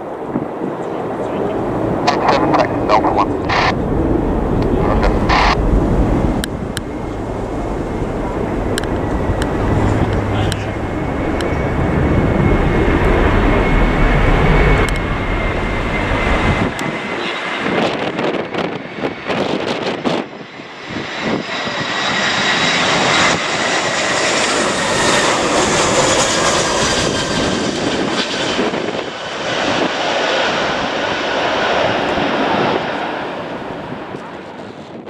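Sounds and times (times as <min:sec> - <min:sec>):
jet engine rumble and whine: 0:00.0 - 0:35.0.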